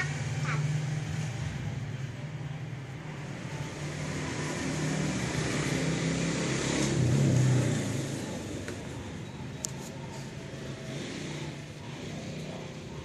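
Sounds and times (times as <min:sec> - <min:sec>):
vehicle engine hum passing by: 0:00.0 - 0:13.0.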